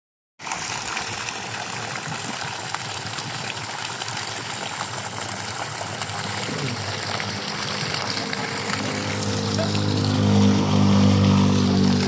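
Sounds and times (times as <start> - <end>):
water gushing from pump: 0.4 - 12.0.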